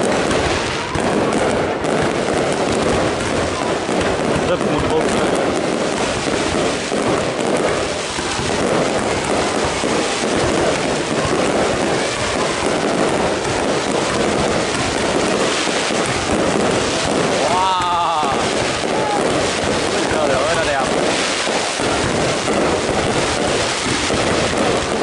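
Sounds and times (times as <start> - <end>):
crowd voices: 0.0 - 25.0
fireworks crackling: 0.0 - 25.0.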